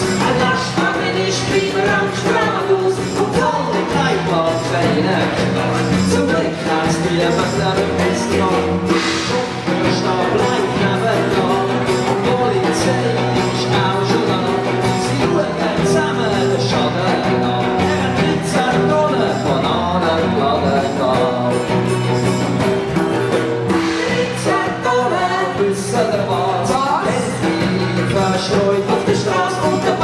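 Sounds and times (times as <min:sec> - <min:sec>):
person singing: 0:00.0 - 0:22.8, 0:23.6 - 0:30.0
drums: 0:00.0 - 0:30.0
electric bass: 0:00.0 - 0:30.0
electric guitar: 0:00.0 - 0:30.0
keyboard: 0:00.0 - 0:30.0.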